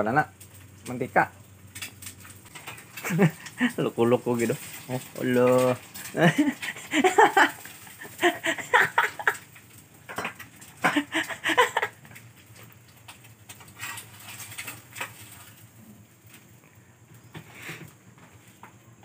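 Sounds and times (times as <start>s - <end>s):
hot oil spattering in frying pan: 0.0s - 16.3s.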